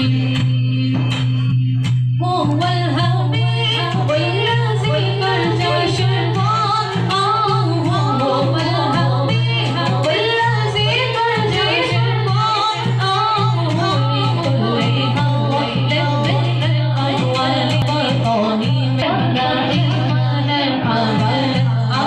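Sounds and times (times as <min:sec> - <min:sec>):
women singing devotional song: 0:00.0 - 0:22.0.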